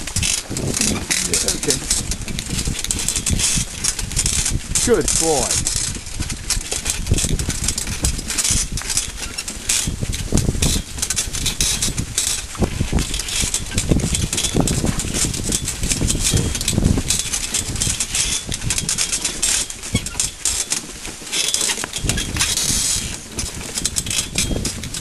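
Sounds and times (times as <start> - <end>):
carriage frame rattling: 0.0 - 25.0
wheels knocking over bumps: 0.0 - 25.0.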